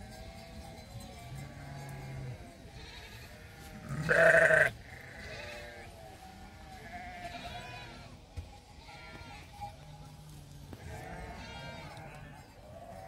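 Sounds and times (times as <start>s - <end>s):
sheep bleating: 1.3s - 8.2s, 8.8s - 13.0s.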